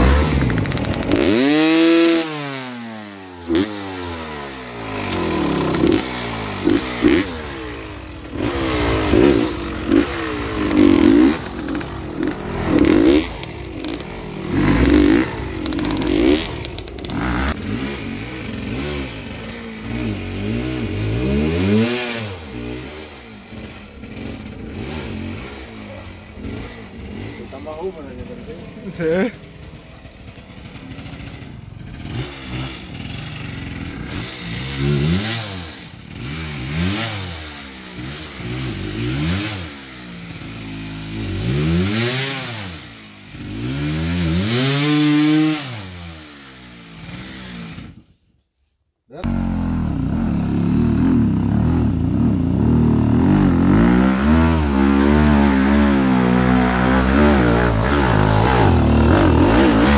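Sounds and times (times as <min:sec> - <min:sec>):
dirt bike engines revving: 0:00.0 - 0:48.0, 0:49.2 - 0:59.9
close dirt bike engine running: 0:00.0 - 0:48.2, 0:49.2 - 0:59.9.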